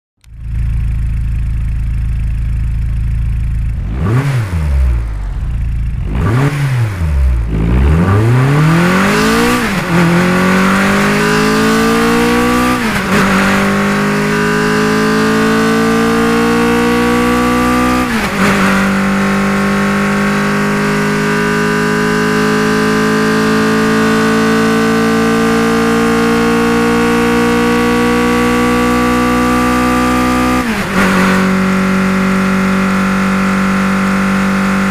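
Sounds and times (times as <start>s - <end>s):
sports car engine revving and accelerating: 3.5s - 34.9s.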